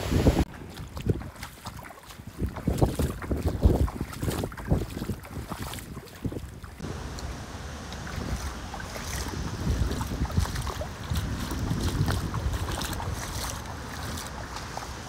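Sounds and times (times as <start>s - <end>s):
boots splashing through water: 0.0s - 15.0s
wind buffeting microphone: 0.0s - 15.0s.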